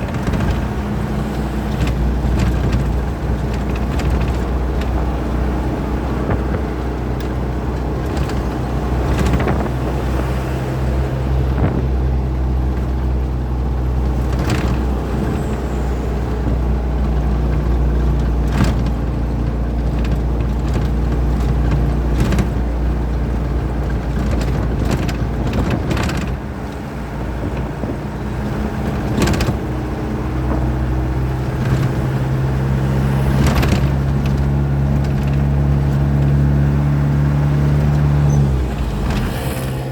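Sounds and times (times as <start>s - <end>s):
short knocks and rattles: 0.0s - 10.5s, 11.1s - 39.9s
truck engine running: 0.0s - 39.9s.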